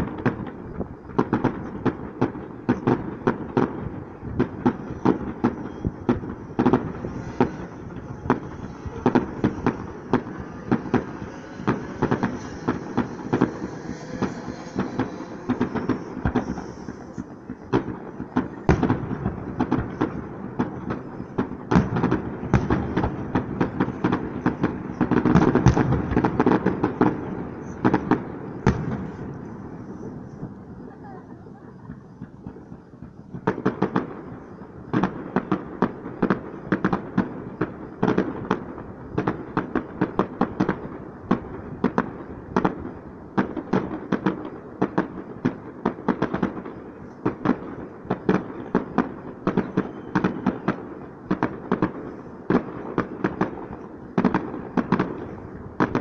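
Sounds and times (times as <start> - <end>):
distant fireworks bursting: 0.0 - 56.0.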